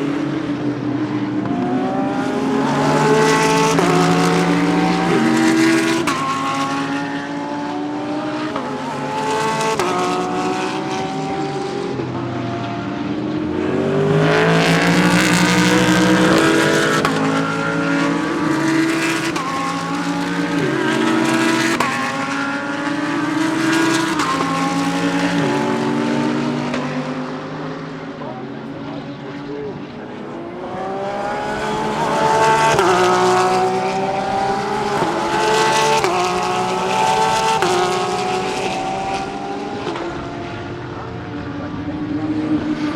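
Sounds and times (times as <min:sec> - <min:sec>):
race cars driving past: 0:00.0 - 0:42.9.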